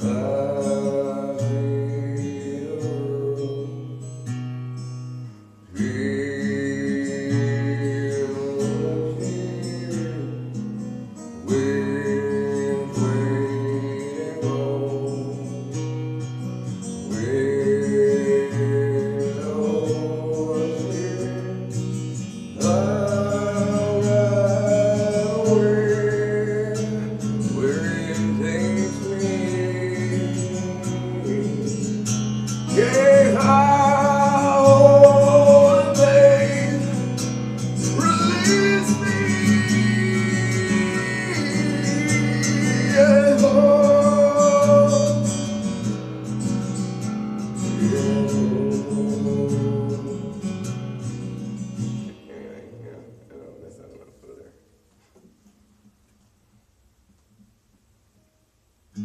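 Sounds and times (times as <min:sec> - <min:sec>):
man singing with vocal effects: 0:00.0 - 0:04.1, 0:05.8 - 0:16.4, 0:17.0 - 0:45.9, 0:47.6 - 0:54.6
acoustic guitar strumming: 0:00.0 - 0:56.2.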